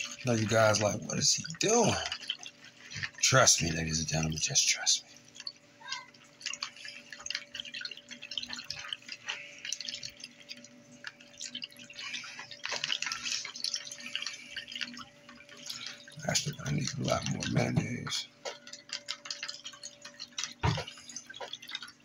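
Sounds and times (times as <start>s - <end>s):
whisk beating wet mixture: 0.0s - 22.0s.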